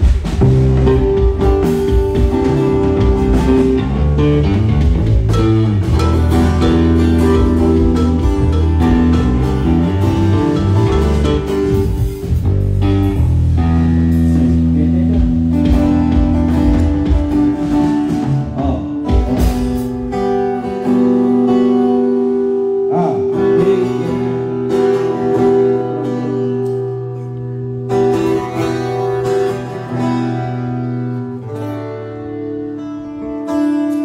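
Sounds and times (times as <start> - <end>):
acoustic guitar strummed chords: 0.0 - 34.0.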